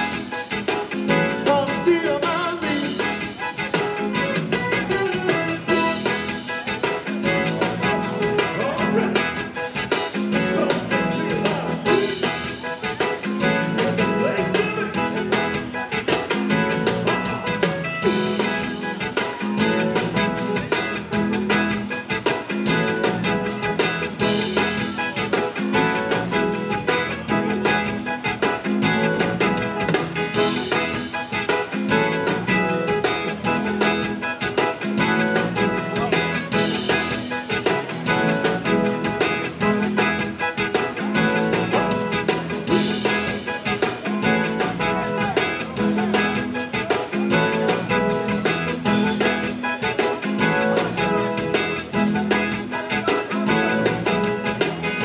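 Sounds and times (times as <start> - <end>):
accordion: 0.0 - 55.0
drum kit dance beat: 0.0 - 55.0
electric guitars: 0.0 - 55.0
keyboard: 0.0 - 55.0.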